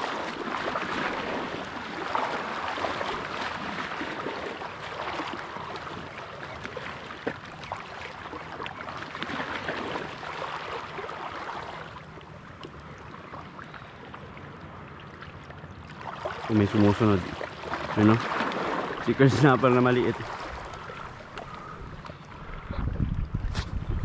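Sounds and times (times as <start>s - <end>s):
small waves lapping on rocks: 0.0s - 14.0s, 15.8s - 22.6s.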